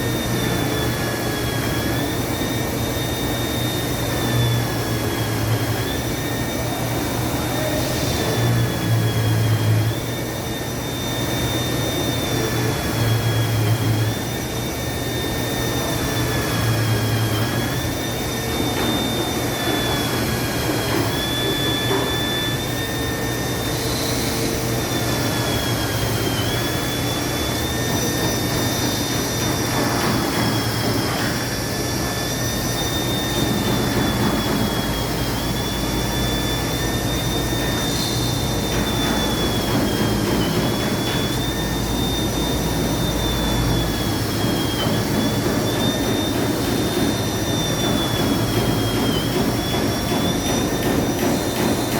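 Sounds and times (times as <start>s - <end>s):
machine high whine: 0.0s - 51.9s.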